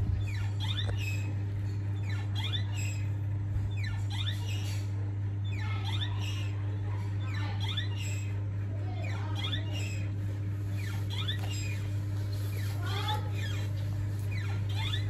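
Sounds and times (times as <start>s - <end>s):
steady low hum: 0.0s - 15.0s
baby monkey squeaking calls: 0.2s - 1.4s, 2.0s - 3.1s, 3.7s - 10.2s, 10.8s - 15.0s.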